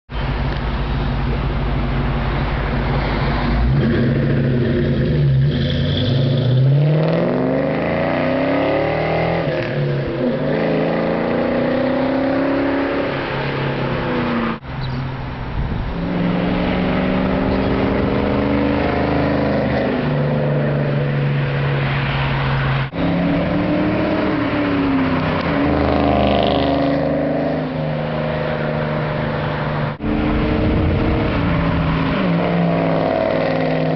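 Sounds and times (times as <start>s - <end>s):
car exhaust revving and accelerating: 0.2s - 14.7s, 15.4s - 33.9s.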